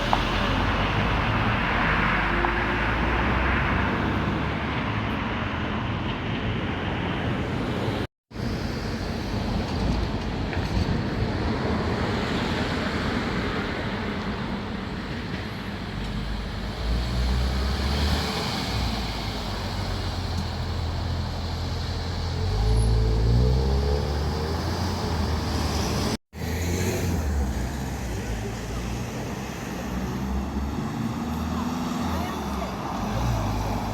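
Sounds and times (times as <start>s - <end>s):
road traffic noise: 0.0s - 33.9s.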